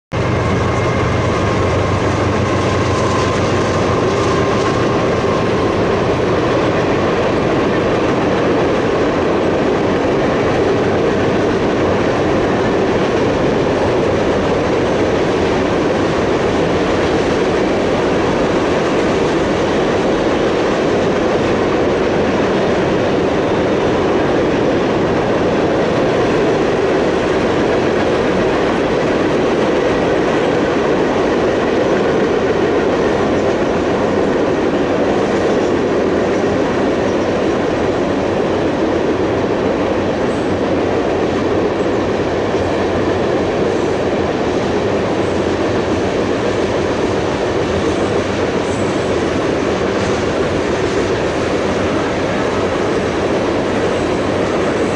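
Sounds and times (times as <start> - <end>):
train wheels rumbling on rail: 0.1 - 54.9.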